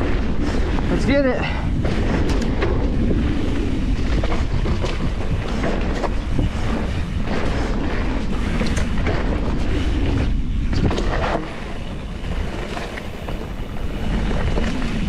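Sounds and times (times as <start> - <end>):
bike rumbling on dirt trail: 0.0 - 15.0
wind buffeting microphone: 0.0 - 15.0
bike clicks and knocks: 1.6 - 15.0.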